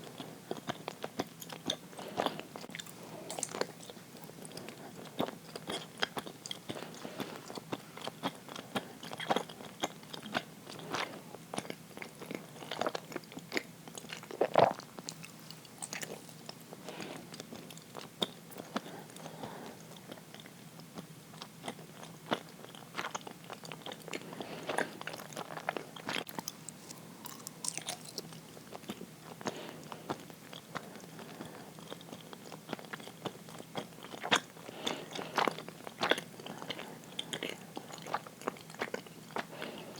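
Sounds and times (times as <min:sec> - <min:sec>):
chewing with wet mouth smacks: 0:00.0 - 0:39.9.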